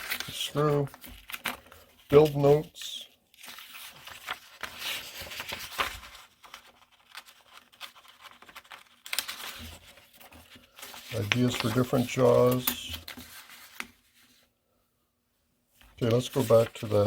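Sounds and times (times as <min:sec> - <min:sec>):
paper rustling and crinkling: 0:00.0 - 0:14.5, 0:15.8 - 0:17.0.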